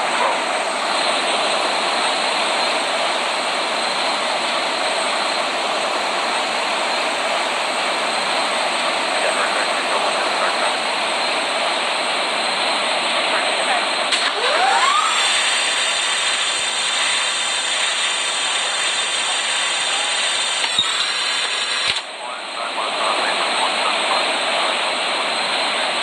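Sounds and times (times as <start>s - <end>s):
faint high whine: 0.0s - 26.0s
jet engines rushing: 0.0s - 26.0s.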